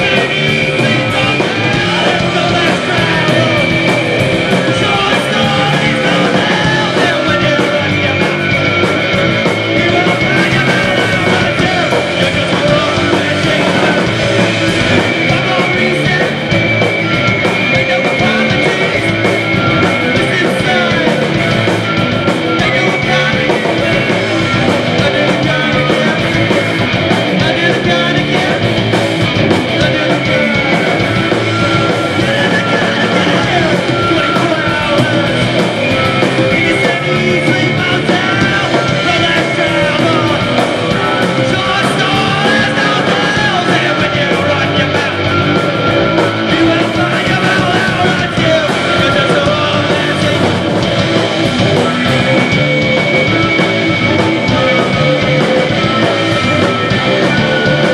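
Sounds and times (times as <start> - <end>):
live band playing loud: 0.0 - 57.9.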